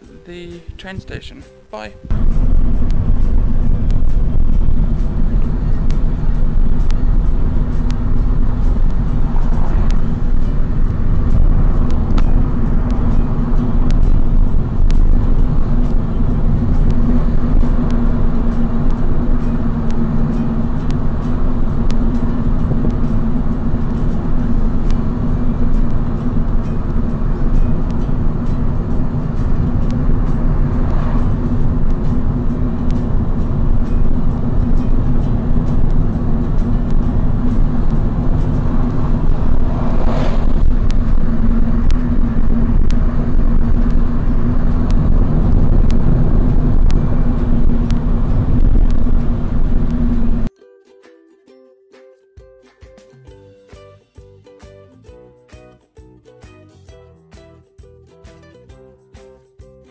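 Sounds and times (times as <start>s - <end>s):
car engine and road noise: 0.0s - 50.5s.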